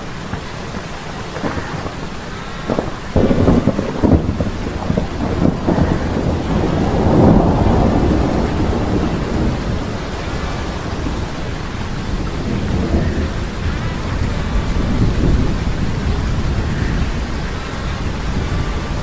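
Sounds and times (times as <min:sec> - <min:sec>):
heavy rain: 0:00.0 - 0:19.0
low thunder rumble: 0:00.0 - 0:19.0.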